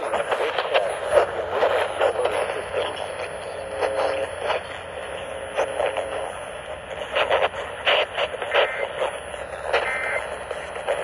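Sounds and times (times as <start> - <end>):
radio static and crackle: 0.0 - 11.0
two-tone data bursts: 0.0 - 11.0.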